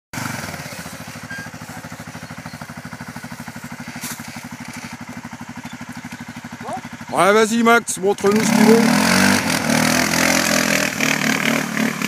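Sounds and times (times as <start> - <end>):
quad bike engine idling: 0.2 - 12.0.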